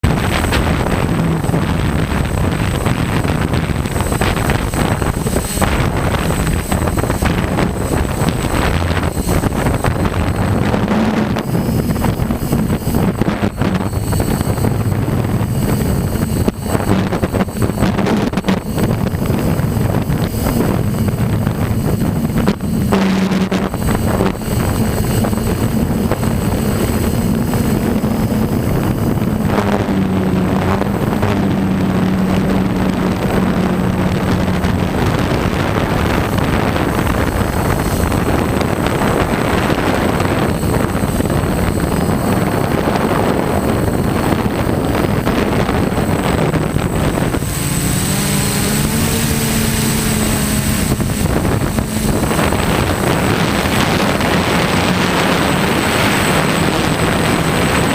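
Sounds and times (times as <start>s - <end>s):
drone motors humming: 0.0s - 57.9s
wind buffeting microphone: 0.0s - 57.9s.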